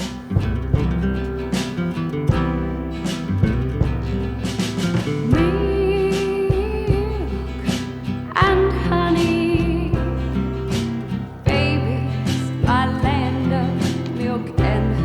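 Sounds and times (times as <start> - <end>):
song with guitar and drums: 0.0 - 15.0.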